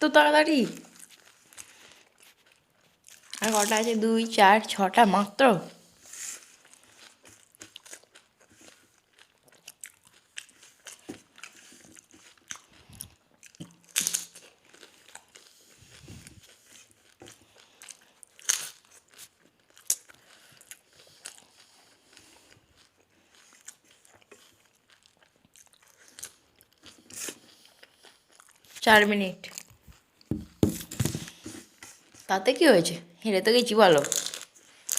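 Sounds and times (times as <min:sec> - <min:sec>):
crunching and chewing food: 0:00.7 - 0:04.2, 0:05.7 - 0:32.3, 0:33.9 - 0:34.9.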